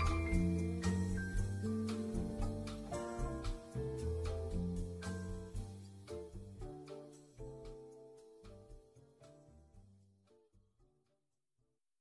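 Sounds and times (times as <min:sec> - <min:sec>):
quiet instrumental music: 0:00.0 - 0:11.2.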